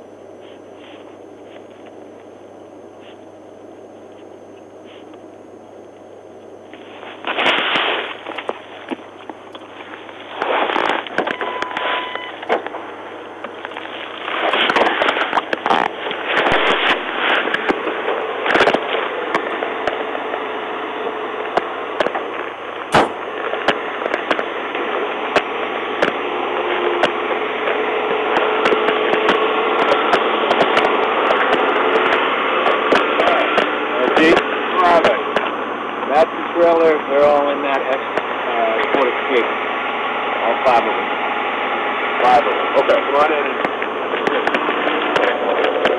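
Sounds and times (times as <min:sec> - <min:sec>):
radio hiss and crackle: 0:00.0 - 0:45.9.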